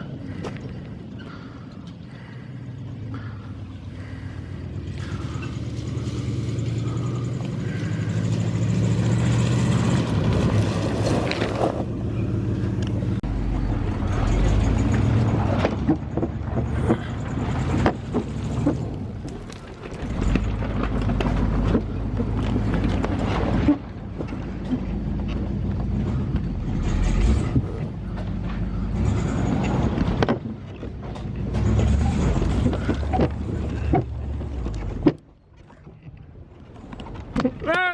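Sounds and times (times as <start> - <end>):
truck engine revving: 0.0 - 35.2
truck bouncing with knocks and clunks: 0.0 - 37.9.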